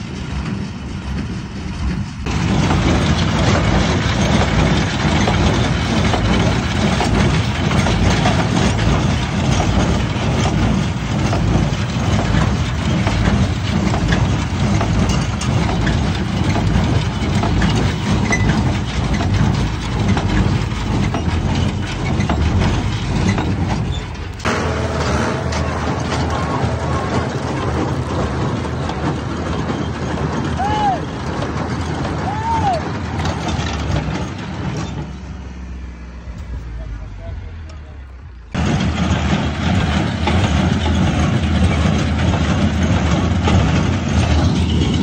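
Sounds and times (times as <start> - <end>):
hay baler mechanical clatter: 0.0 - 45.0
tractor engine: 0.0 - 45.0.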